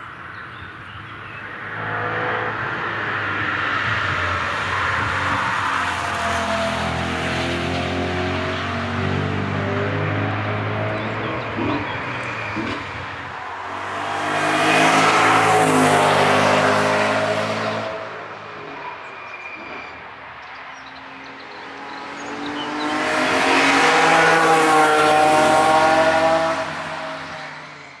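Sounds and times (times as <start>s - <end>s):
cars passing with engines revving: 0.0s - 28.0s.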